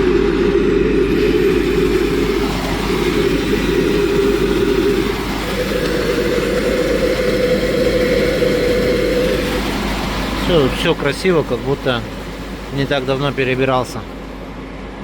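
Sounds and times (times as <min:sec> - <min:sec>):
droning machine hum: 0:00.0 - 0:15.0.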